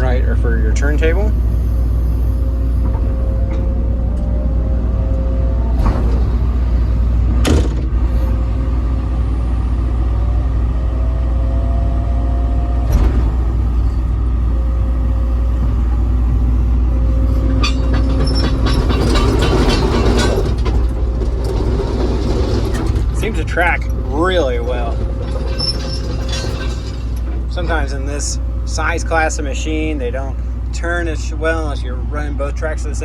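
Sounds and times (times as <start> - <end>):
tracks rattling and clanking: 0.0 - 11.3, 12.5 - 33.0
hydraulic whine: 0.0 - 32.8
diesel engine rumble: 0.0 - 33.0.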